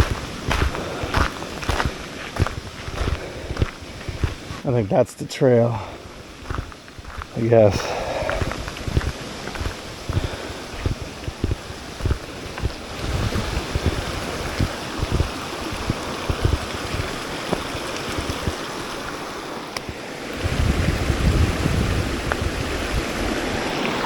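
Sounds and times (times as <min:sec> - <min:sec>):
wind buffeting microphone: 0:00.0 - 0:04.7, 0:05.8 - 0:24.0
creek water flowing: 0:00.0 - 0:24.0.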